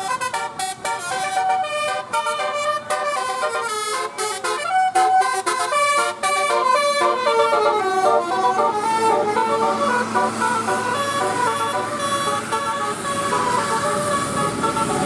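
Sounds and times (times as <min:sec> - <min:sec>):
multi-tone air horn tune: 0:00.0 - 0:15.0.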